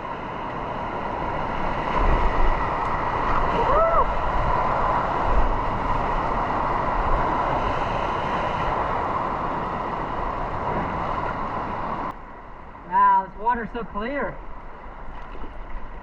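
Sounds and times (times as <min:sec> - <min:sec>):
river water rushing: 0:00.0 - 0:16.0
wind rumble on microphone: 0:00.0 - 0:16.0.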